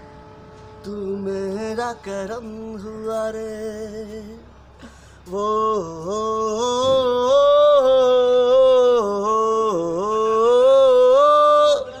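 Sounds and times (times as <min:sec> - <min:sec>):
man singing unaccompanied: 0:00.8 - 0:04.6, 0:05.2 - 0:12.0.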